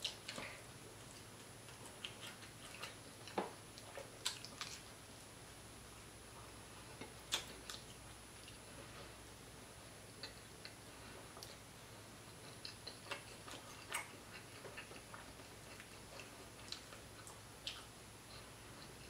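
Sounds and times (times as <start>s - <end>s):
chewing: 0.0s - 4.9s, 6.8s - 9.2s, 10.1s - 19.0s.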